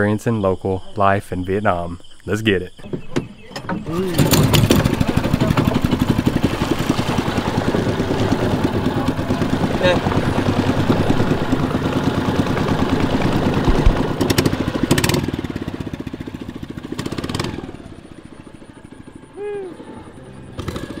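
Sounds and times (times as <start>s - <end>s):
boat engine puttering: 2.7s - 21.0s.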